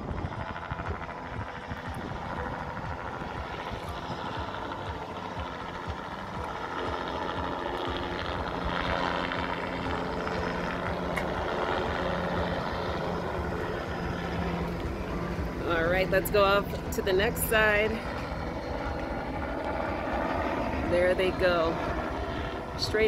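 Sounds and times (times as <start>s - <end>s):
helicopter flying overhead: 0.0s - 23.0s.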